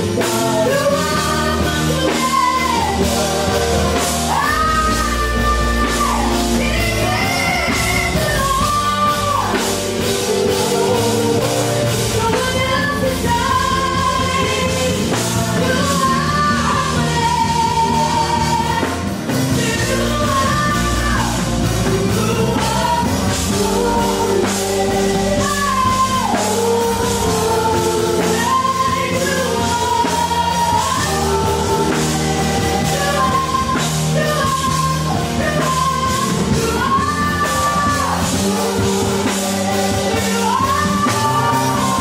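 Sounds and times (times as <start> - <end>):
backing singers: 0.0 - 42.0
electric guitar: 0.0 - 42.0
keyboard: 0.0 - 42.0
woman singing lead vocal: 0.0 - 42.0.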